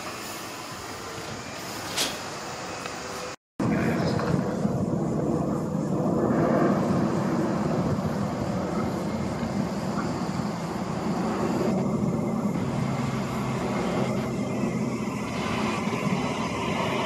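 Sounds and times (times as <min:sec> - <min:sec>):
high electric whine: 0:00.0 - 0:17.0
train wheels rumbling on rail: 0:00.0 - 0:17.0.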